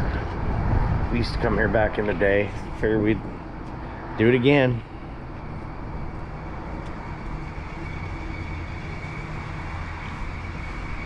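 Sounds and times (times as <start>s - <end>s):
low engine rumble with hum: 0.0s - 11.0s.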